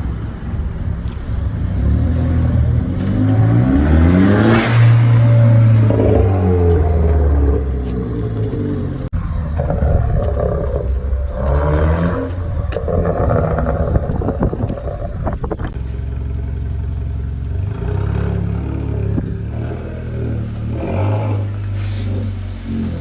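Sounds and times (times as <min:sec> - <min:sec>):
car engine revving: 0:00.0 - 0:23.0
exhaust pops and crackles: 0:00.0 - 0:23.0.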